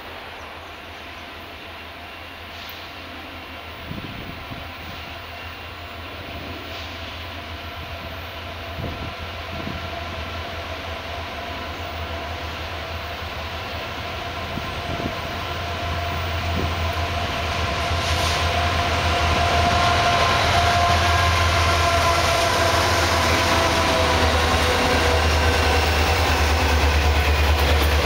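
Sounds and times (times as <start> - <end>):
locomotive engine rumble: 0.0 - 28.0.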